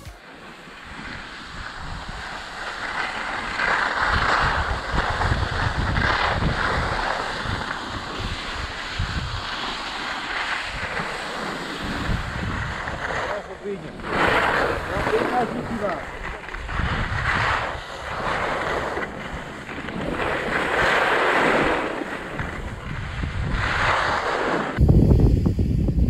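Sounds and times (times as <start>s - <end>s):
skis scraping over snow: 0.0s - 25.7s
wind buffeting microphone: 0.8s - 10.0s, 10.6s - 26.0s.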